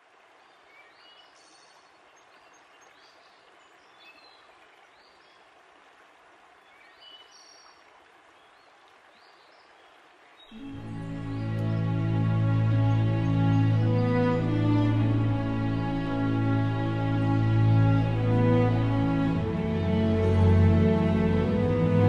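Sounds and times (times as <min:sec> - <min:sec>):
faint hiss of moving water: 0:00.0 - 0:22.0.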